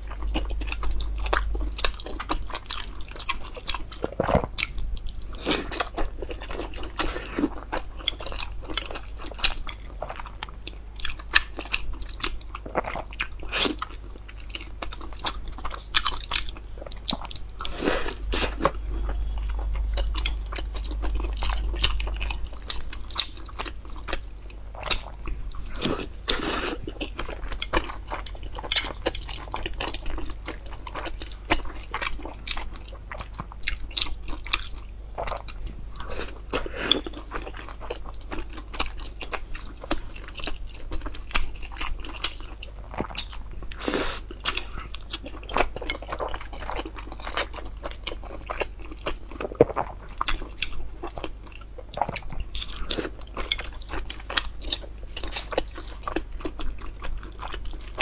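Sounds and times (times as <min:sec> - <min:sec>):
chewing and biting: 0:00.0 - 0:58.0
steady low hum: 0:00.0 - 0:58.0.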